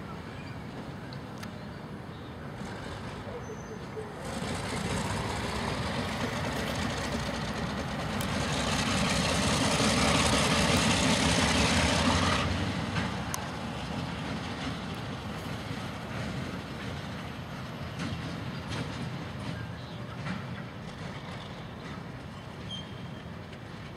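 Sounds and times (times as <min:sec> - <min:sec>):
freight train rumbling: 0:00.0 - 0:23.9.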